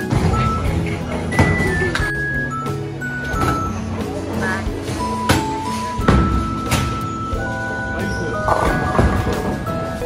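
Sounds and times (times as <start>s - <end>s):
melodic music over a beat: 1.8s - 10.0s.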